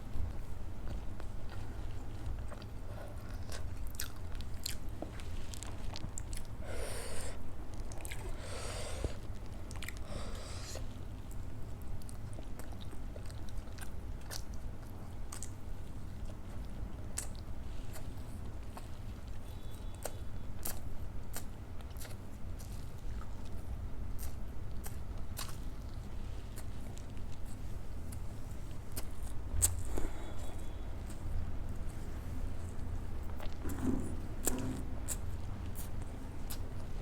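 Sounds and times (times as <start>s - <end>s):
person chewing food: 0.0s - 37.0s
steady low hum: 0.0s - 37.0s.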